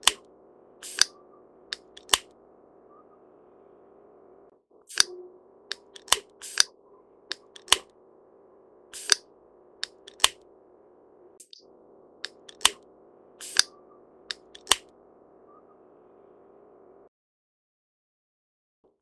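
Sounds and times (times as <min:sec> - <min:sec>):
faint hum: 0:00.0 - 0:17.1.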